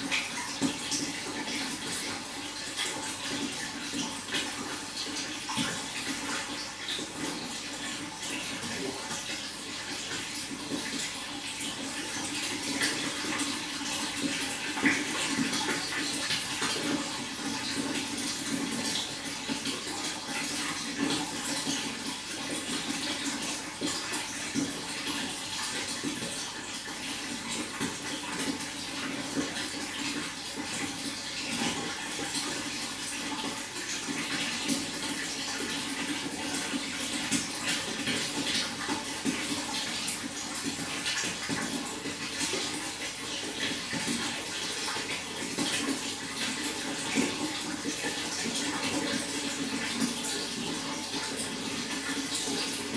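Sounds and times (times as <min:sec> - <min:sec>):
running water splashing: 0:00.0 - 0:52.9.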